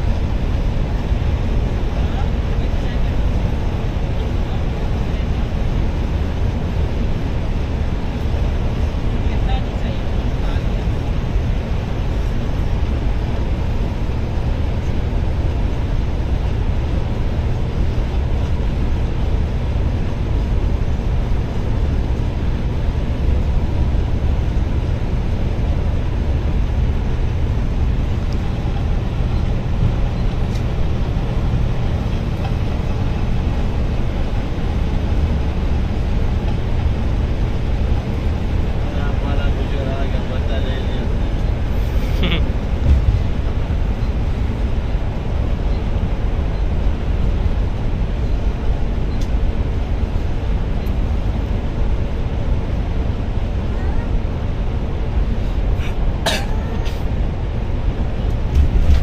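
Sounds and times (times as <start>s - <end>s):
coach engine and road rumble: 0.0s - 59.0s.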